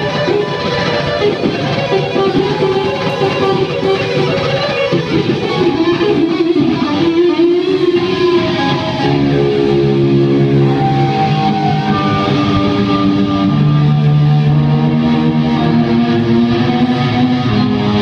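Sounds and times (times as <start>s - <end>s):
distorted electric guitar solo: 0.0s - 18.0s.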